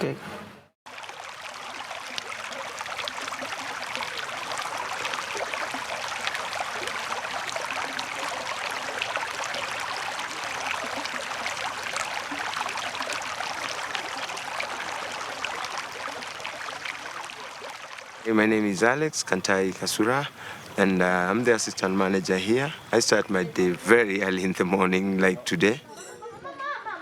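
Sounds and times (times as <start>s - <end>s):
running water: 0.9s - 25.9s.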